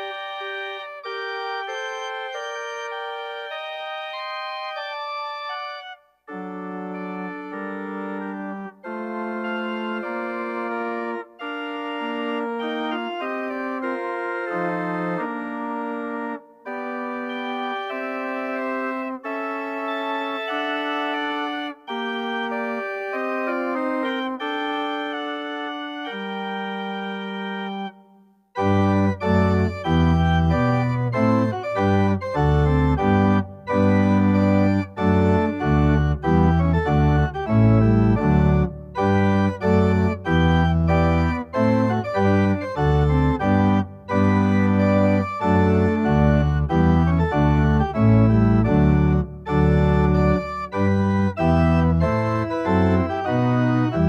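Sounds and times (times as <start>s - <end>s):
church organ playing chords: 0.0s - 54.0s.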